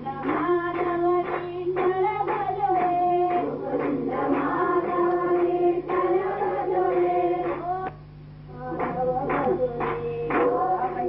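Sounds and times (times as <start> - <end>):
steady low hum: 0.0 - 11.0
women singing a prayer chant: 0.0 - 11.0.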